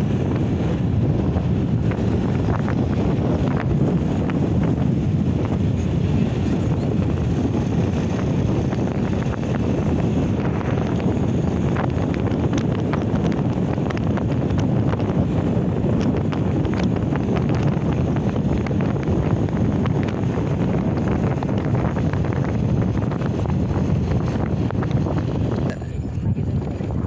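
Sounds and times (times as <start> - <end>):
motorcycle engine: 0.0 - 27.0
road noise: 0.0 - 27.0
wind buffeting microphone: 0.0 - 27.0.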